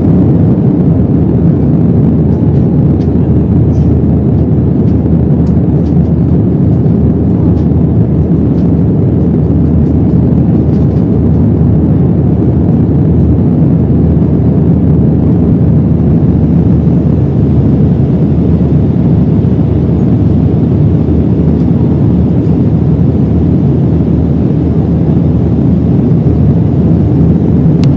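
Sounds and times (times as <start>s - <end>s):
jet airliner cabin noise: 0.0s - 27.9s.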